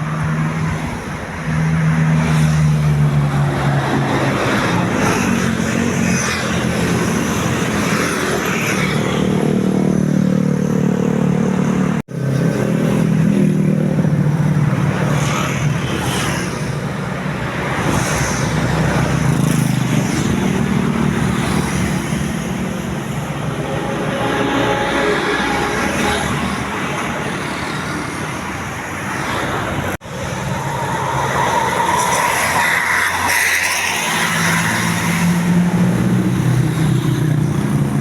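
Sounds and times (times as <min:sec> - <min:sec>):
vehicles passing with engines running: 0:00.0 - 0:38.0.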